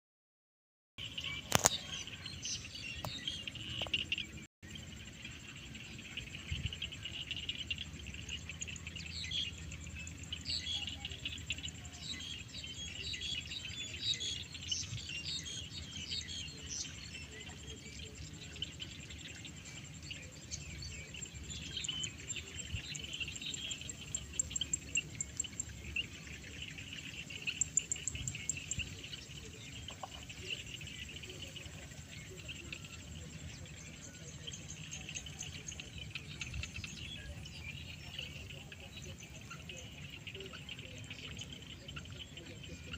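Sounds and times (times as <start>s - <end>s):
small birds chirping: 1.0s - 42.9s.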